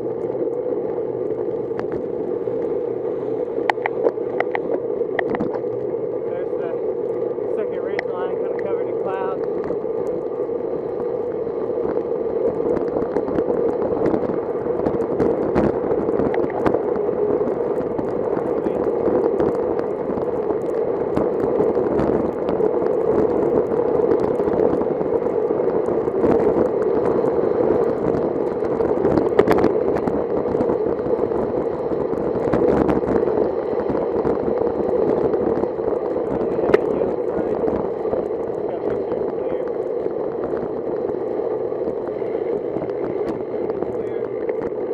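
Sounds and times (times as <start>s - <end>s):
bicycle tyres on wet road: 0.0s - 44.9s
small clicks and crackles: 0.0s - 44.9s.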